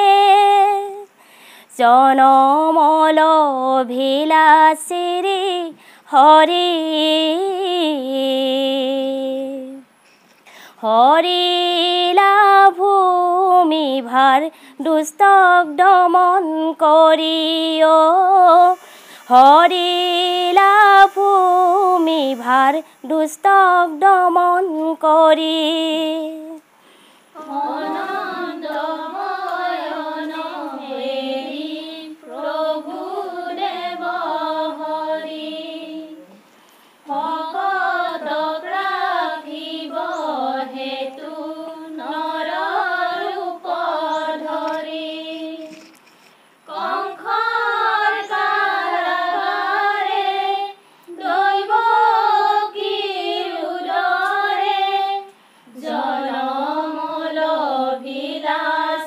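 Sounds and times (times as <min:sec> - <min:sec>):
women singing devotional song: 0:00.0 - 0:59.0.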